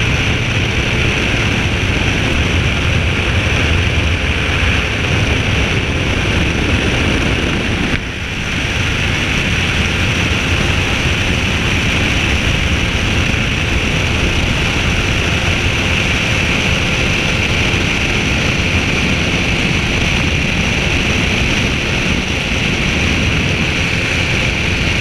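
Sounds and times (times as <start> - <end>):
microlight engine in flight: 0.0 - 25.0
wind buffeting microphone: 0.0 - 25.0.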